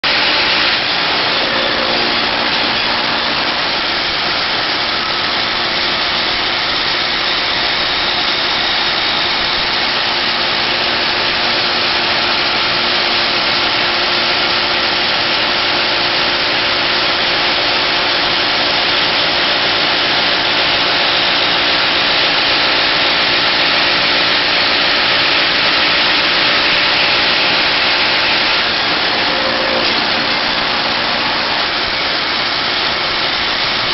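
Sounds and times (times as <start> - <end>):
machine engine running: 0.0 - 33.9.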